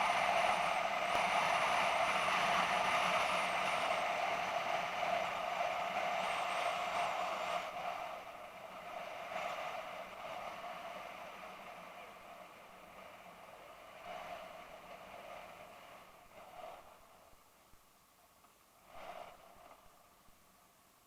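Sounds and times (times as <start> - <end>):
vehicle and road noise: 0.0 - 17.7.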